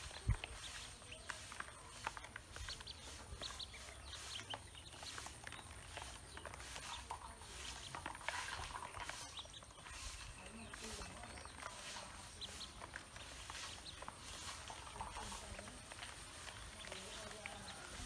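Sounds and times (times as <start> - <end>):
ducklings peeping: 0.0 - 18.0
ducklings tapping bills on plastic: 0.0 - 18.0.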